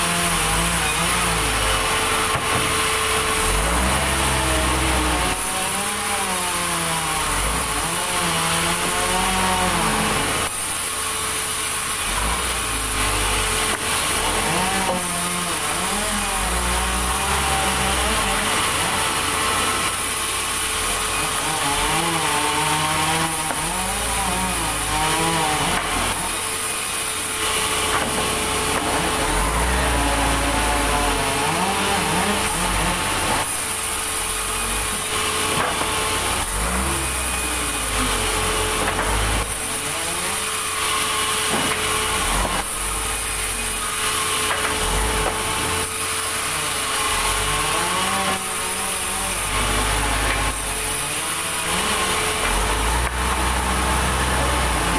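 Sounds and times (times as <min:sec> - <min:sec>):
band saw cutting timber: 0:00.0 - 0:54.9.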